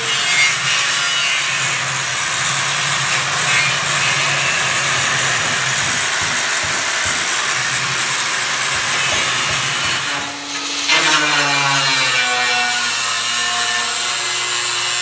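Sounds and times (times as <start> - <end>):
power tool cutting metal: 0.0 - 15.0.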